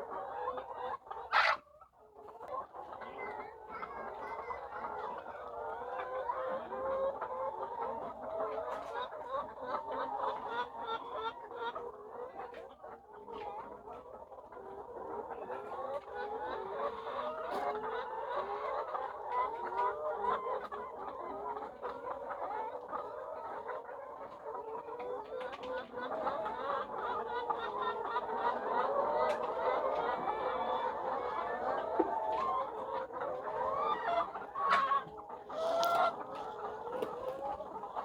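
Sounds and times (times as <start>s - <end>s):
hens clucking: 0.0s - 38.0s.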